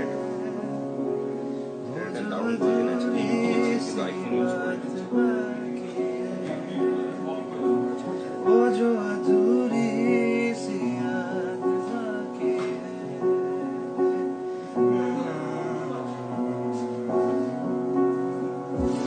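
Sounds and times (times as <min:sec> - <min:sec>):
man singing with vibrato: 0:01.8 - 0:17.8.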